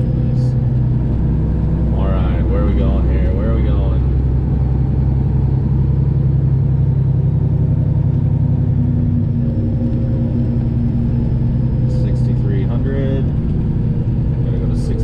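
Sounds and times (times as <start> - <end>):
higher tone: 0.0 - 15.0
truck diesel engine drone: 0.0 - 15.0.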